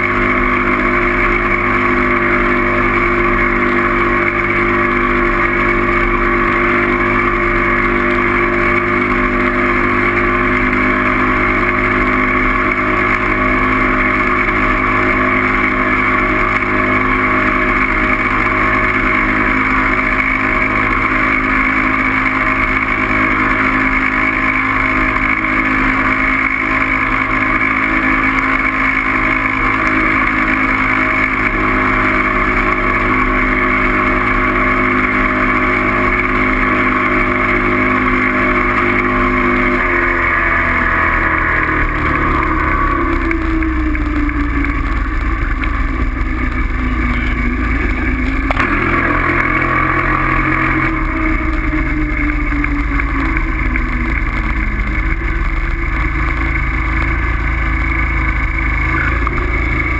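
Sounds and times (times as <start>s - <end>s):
rush of noise: 0.0s - 59.9s
vehicle motor running: 0.0s - 59.9s.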